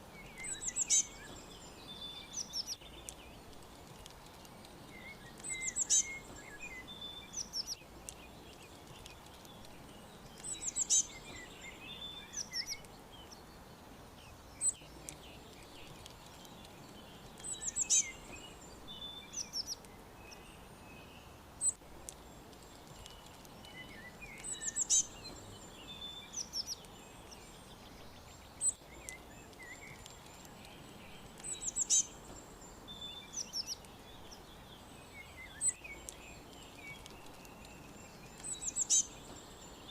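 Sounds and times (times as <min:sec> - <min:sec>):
birds chirping: 0:00.0 - 0:39.9
faint hiss: 0:00.0 - 0:39.9.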